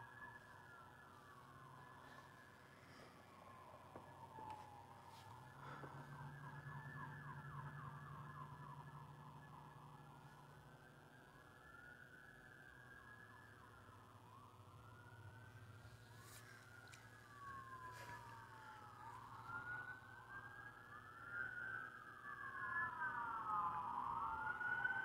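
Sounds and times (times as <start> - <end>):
emergency sirens wailing: 0.0 - 25.0.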